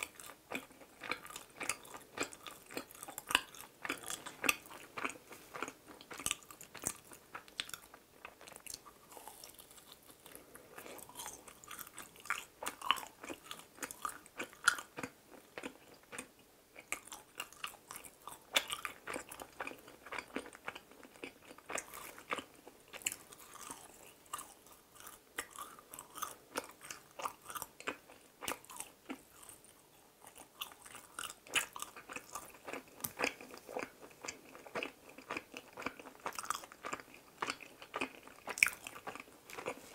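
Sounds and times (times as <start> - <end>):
chewing sticky donuts: 0.0 - 39.9.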